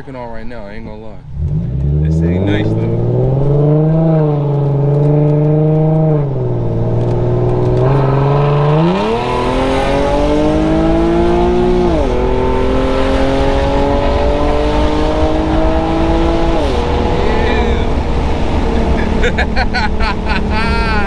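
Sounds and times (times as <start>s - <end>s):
car exhaust under acceleration: 0.5s - 21.0s.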